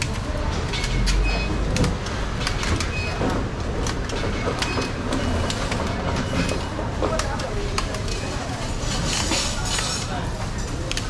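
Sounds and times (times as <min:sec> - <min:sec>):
plastic boxes clicking and crackling: 0:00.0 - 0:11.0.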